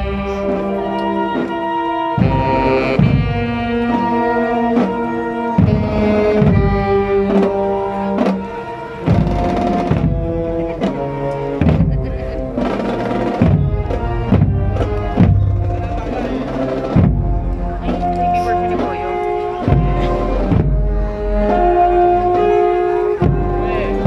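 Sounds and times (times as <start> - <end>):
brass band playing a march: 0.0 - 24.0
steady drum beats: 0.0 - 24.0.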